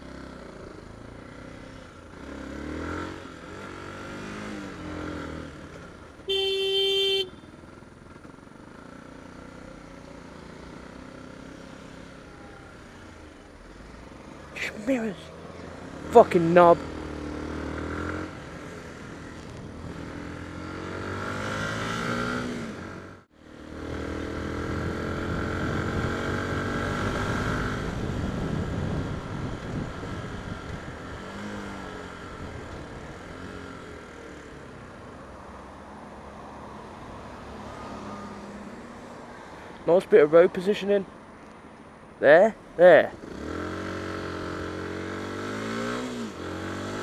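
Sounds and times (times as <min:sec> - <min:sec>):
motorcycle engine revving: 0:00.0 - 0:35.0, 0:42.8 - 0:47.0
road and wind noise: 0:00.0 - 0:47.0.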